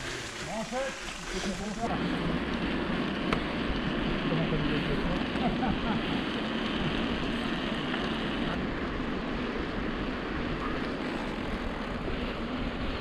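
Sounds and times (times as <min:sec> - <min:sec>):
bike tyre noise: 0:00.0 - 0:13.0.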